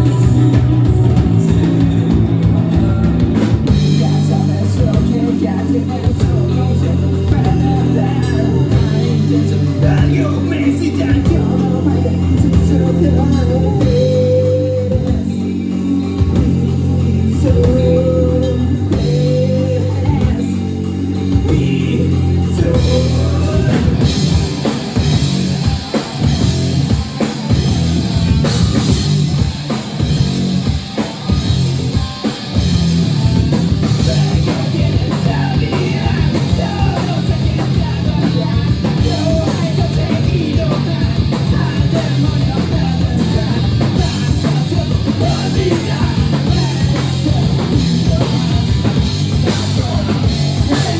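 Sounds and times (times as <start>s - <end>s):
rock band playing: 0.0s - 50.9s.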